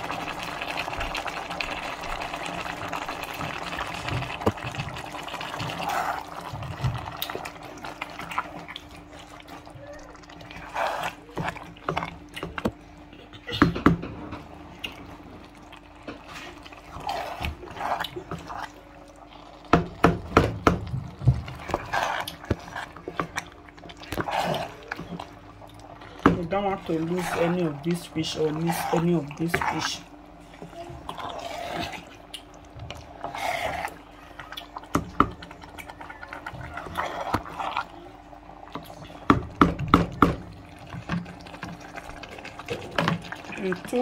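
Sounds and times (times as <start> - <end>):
spoon stirring thick soup: 0.2 - 12.9, 13.5 - 44.0.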